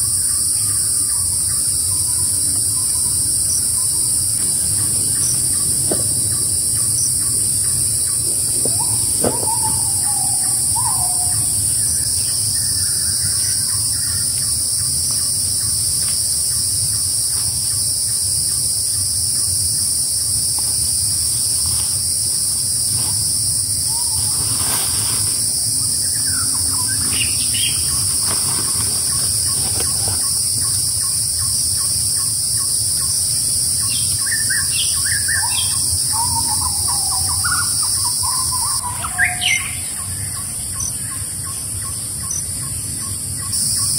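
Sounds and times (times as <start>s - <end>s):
insect chorus droning: 0.0s - 43.9s.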